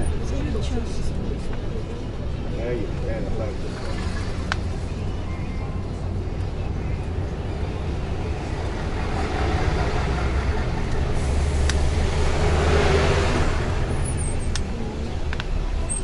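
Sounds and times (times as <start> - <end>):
bus engine rumble: 0.0 - 16.0
road noise: 0.0 - 16.0.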